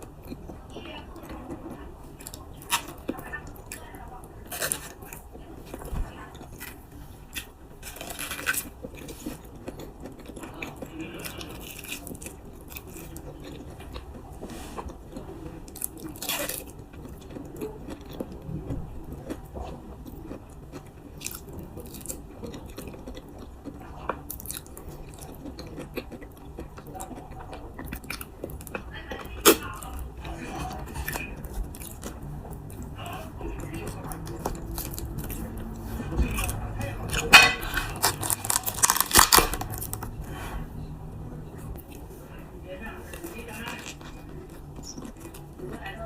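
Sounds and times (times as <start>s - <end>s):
person chewing: 0.0s - 46.0s.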